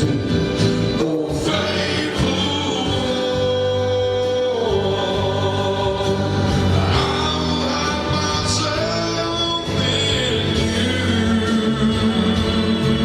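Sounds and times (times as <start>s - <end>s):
instrumental accompaniment: 0.0s - 13.0s
person singing gospel: 0.0s - 13.0s.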